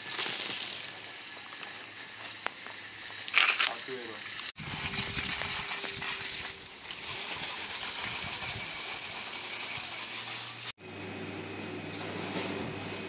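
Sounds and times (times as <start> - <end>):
garden hose spraying water: 0.0 - 10.8.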